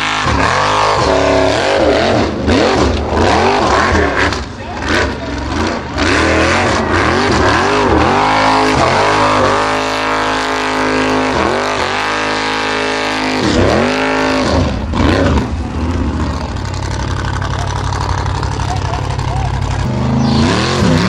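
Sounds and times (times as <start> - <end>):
buggy engine revving hard: 0.0 - 21.0.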